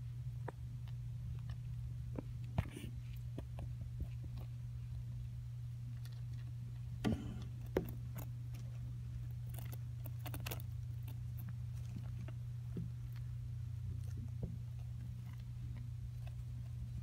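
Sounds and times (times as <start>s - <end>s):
steady low hum: 0.0s - 17.0s
hamster nibbling seeds: 0.8s - 17.0s.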